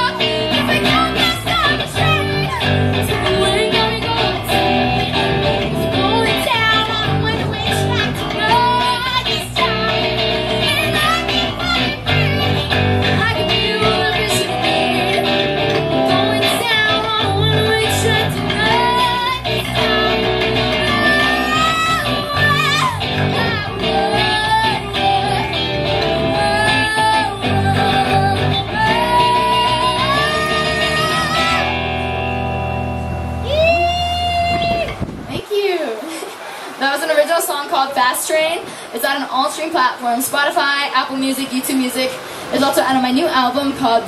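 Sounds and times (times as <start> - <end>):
woman singing: 0.0 - 32.2, 33.4 - 36.1, 36.8 - 44.0
electric bass: 0.0 - 35.3
electric guitar: 0.0 - 35.4.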